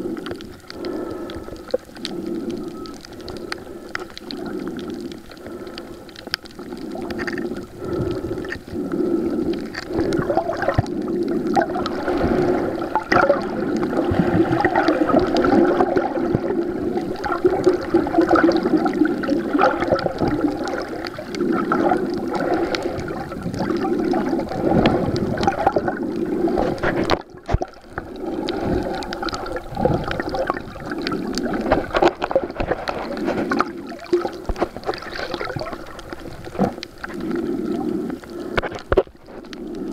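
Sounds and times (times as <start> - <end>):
small crackles and clicks: 0.0 - 39.9
water sloshing underwater: 0.0 - 39.9.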